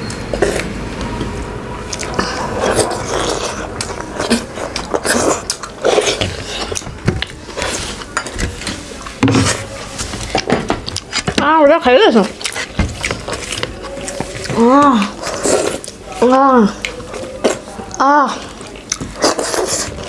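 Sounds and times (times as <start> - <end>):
chewing and sucking on bones: 1.9 - 11.4, 12.1 - 20.0.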